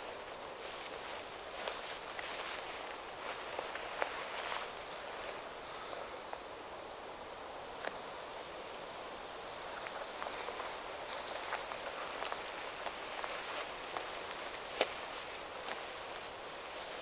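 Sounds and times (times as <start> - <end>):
wind rustling through trees: 0.0 - 17.0.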